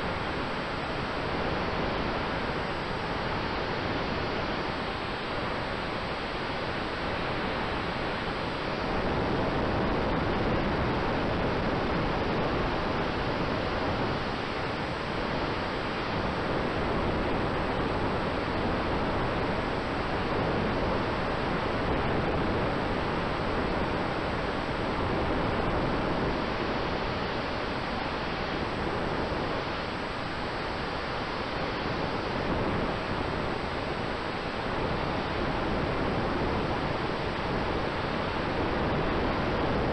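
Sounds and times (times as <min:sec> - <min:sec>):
faint steady hum: 0:00.0 - 0:39.9
wind rushing over microphone: 0:00.0 - 0:39.9.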